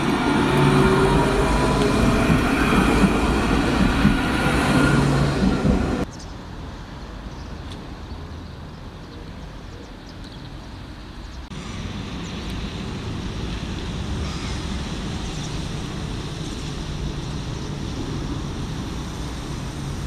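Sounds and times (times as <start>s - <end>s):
vehicle rumbling in traffic: 0.0s - 20.0s.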